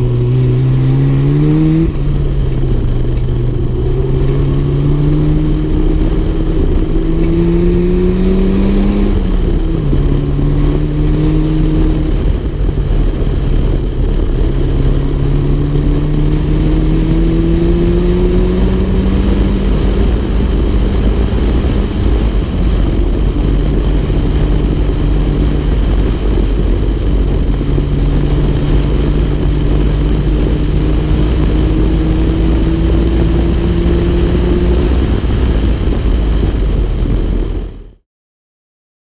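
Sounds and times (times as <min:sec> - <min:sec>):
car engine under power: 0:00.0 - 0:37.9
road rumble: 0:00.0 - 0:38.0
wind noise: 0:00.0 - 0:38.0.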